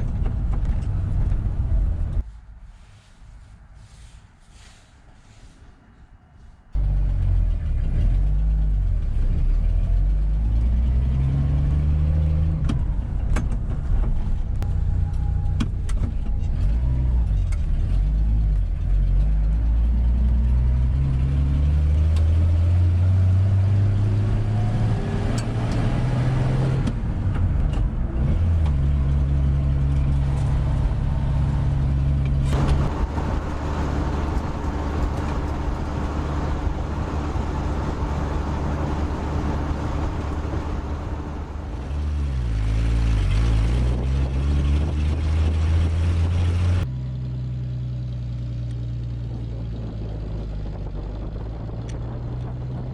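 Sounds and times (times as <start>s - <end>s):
pickup truck engine on road: 0.0s - 2.2s, 6.7s - 52.9s.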